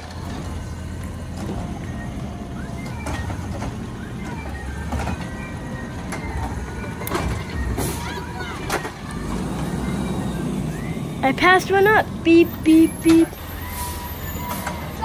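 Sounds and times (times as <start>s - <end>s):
garbage truck engine rumble: 0.0s - 15.0s.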